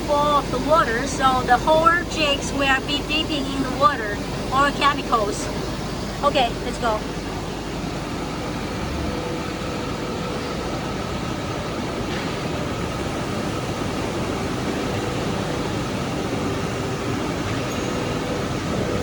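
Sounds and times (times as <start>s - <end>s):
machinery hum and air noise: 0.0s - 19.0s.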